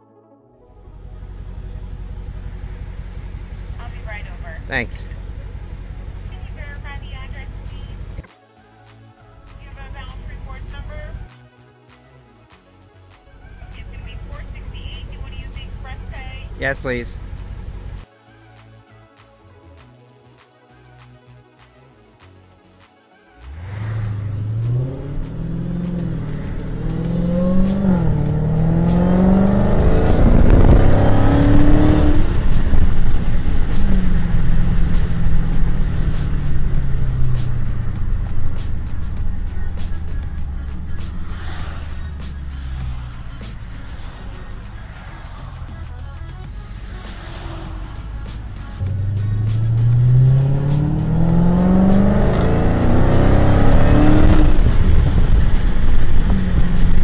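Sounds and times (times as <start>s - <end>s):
car engine accelerating: 0.7s - 8.3s, 13.6s - 18.1s, 23.4s - 57.0s.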